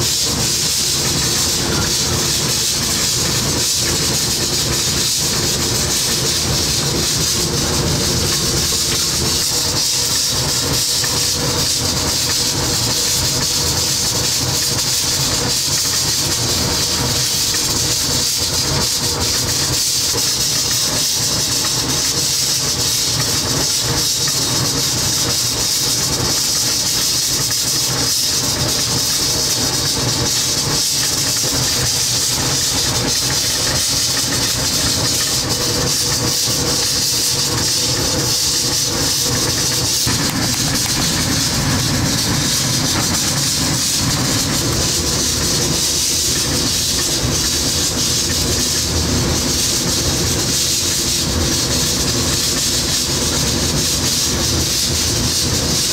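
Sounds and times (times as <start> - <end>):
kitchen hiss and rumble: 0.0 - 55.9.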